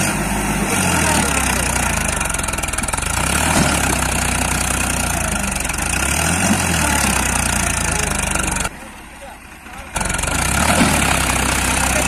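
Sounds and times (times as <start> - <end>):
ride-on toy tractor humming: 0.0 - 12.0.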